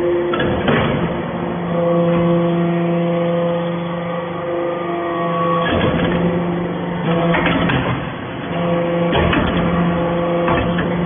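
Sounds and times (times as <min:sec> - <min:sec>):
machine motor and pump hum: 0:00.0 - 0:11.0.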